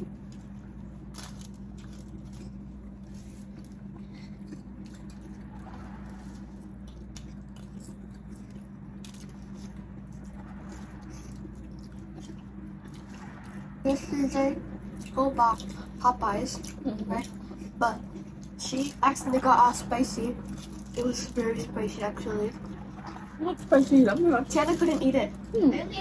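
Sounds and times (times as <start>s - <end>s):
chewing crispy fries: 0.0s - 26.0s
steady low hum: 0.0s - 26.0s.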